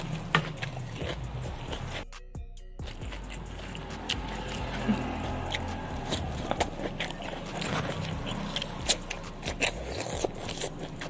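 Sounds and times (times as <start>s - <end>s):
person biting and chewing: 0.0s - 2.2s, 2.8s - 11.0s.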